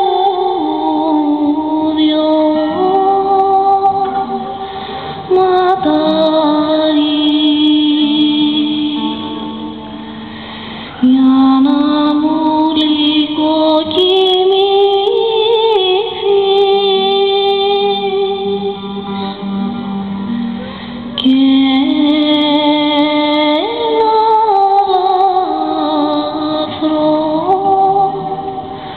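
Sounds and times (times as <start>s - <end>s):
woman singing long notes: 0.0s - 10.2s, 10.9s - 28.9s.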